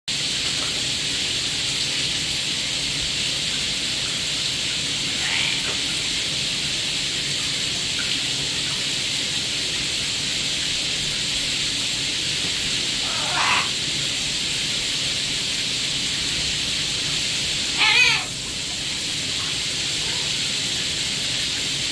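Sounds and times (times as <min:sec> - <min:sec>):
water spraying into bathtub: 0:00.1 - 0:21.9.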